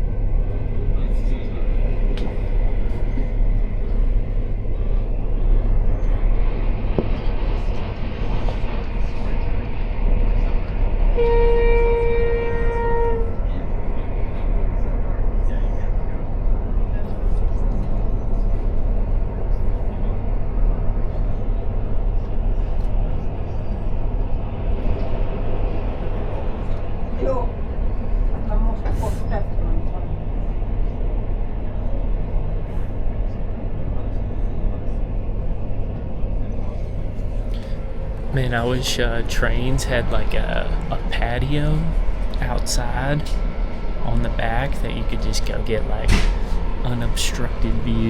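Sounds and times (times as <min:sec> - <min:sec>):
train rumble inside carriage: 0:00.0 - 0:48.0.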